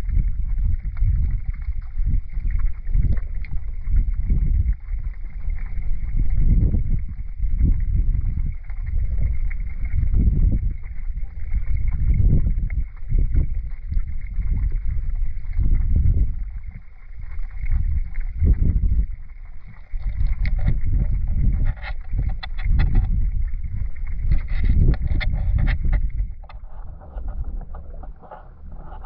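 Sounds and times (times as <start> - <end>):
underwater river current rumble: 0.0 - 29.0.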